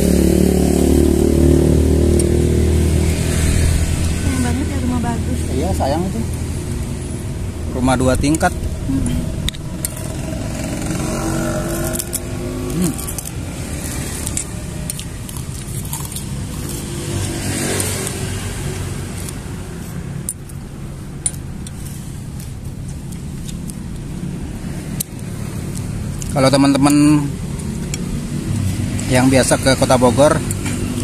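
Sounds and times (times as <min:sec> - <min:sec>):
passing traffic: 0:00.0 - 0:31.0
vehicle engine running: 0:00.0 - 0:31.0.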